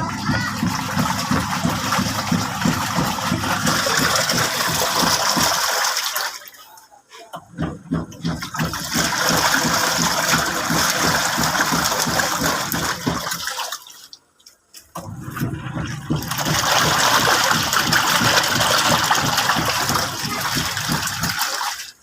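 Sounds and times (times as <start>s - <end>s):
water churning in washing machine: 0.0s - 14.2s, 14.8s - 22.0s.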